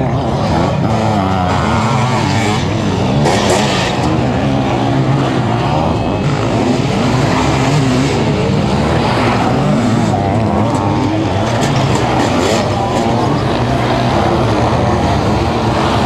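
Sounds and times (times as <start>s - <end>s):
motorcycle engines revving hard: 0.0s - 16.0s.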